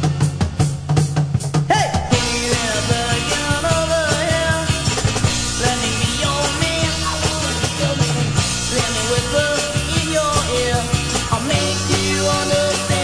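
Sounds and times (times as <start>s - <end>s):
drums steady beat: 0.0s - 13.0s
rock band playing: 0.0s - 13.0s.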